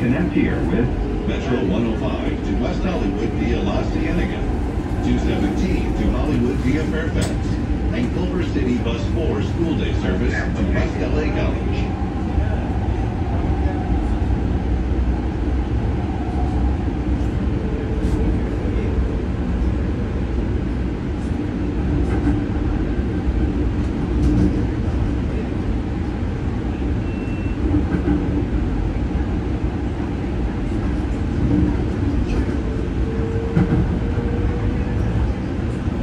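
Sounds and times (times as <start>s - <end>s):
light rail car rumbling: 0.0s - 36.0s.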